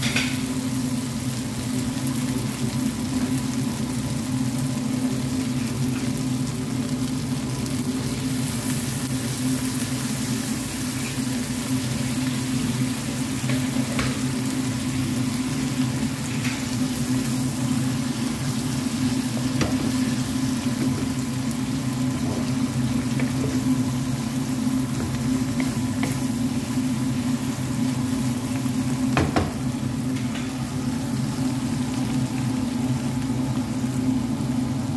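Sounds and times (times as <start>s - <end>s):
food sizzling in a pan: 0.0s - 34.9s.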